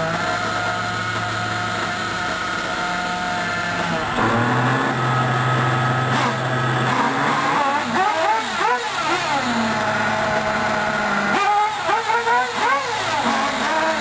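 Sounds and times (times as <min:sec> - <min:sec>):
small nitro engines buzzing: 0:00.0 - 0:14.0.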